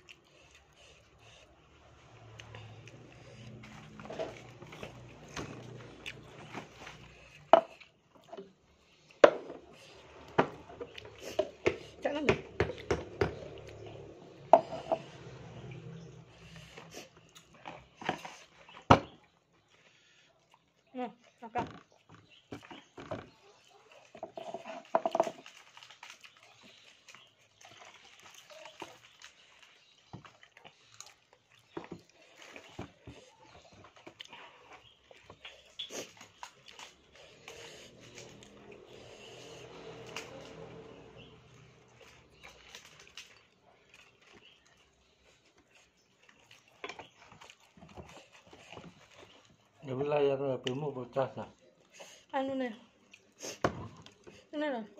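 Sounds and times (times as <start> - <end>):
chewing food: 0.0 - 54.5.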